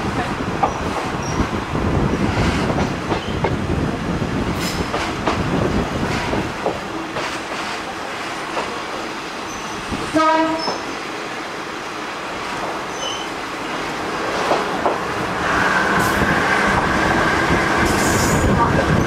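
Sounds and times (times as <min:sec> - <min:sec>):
rail joint clicks: 0:00.0 - 0:11.3, 0:12.2 - 0:19.0
train wheels rumbling: 0:00.0 - 0:19.0.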